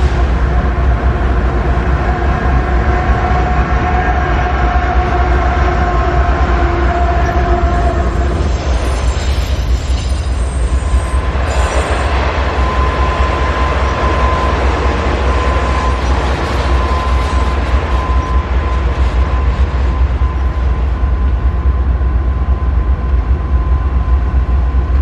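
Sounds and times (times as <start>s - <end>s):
freight train cars rumbling past: 0.0s - 25.0s
train wheel squeal: 0.0s - 25.0s.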